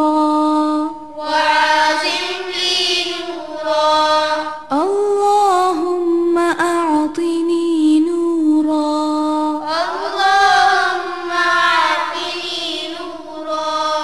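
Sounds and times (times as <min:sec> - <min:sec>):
person chanting: 0:00.0 - 0:14.0.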